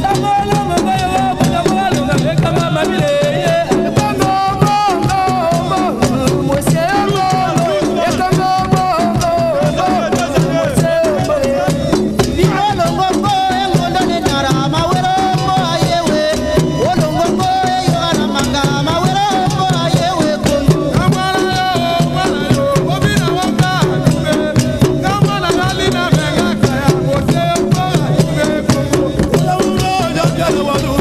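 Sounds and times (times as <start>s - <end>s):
dance song with singing: 0.0s - 31.0s
drums: 0.0s - 31.0s.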